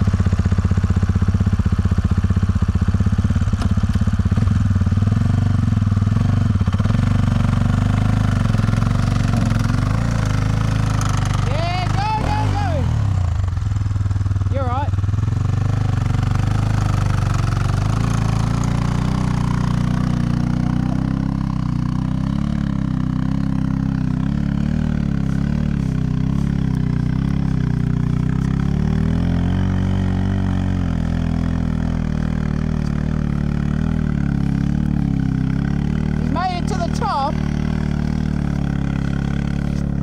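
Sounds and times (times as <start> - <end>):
motorcycle engine at low revs: 0.0 - 40.0.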